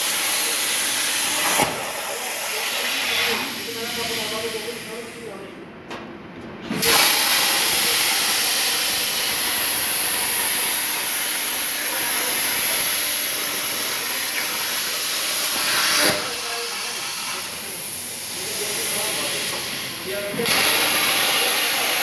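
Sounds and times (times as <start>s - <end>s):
plasma torch cutting metal: 0.0s - 5.2s, 6.7s - 22.0s.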